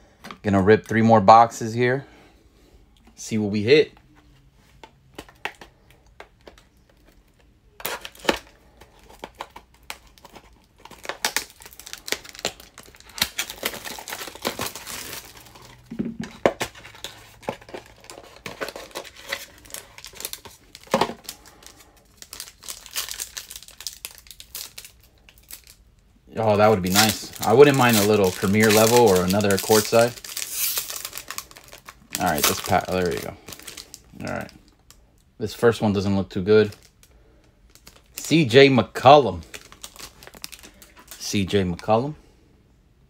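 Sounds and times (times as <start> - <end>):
plastic and foil packs crinkling: 5.1 - 42.1.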